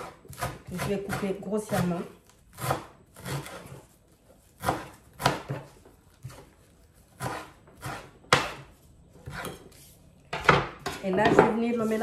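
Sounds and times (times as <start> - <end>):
knife chopping on wooden board: 0.0 - 3.9, 4.5 - 6.5, 7.1 - 9.6, 10.3 - 11.6.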